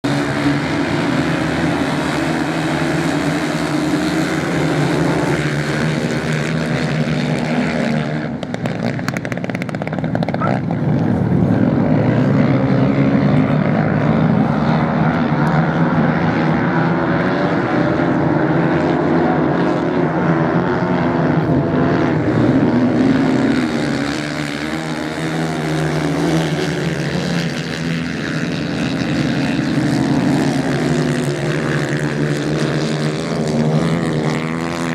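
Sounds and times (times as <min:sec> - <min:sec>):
racing motorcycle engines: 0:00.0 - 0:34.9.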